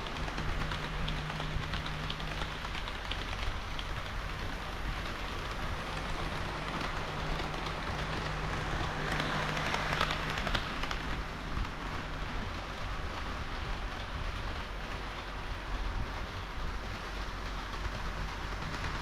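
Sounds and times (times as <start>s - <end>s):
low motor hum: 0.0s - 19.0s
model train wheels rushing: 0.0s - 19.0s.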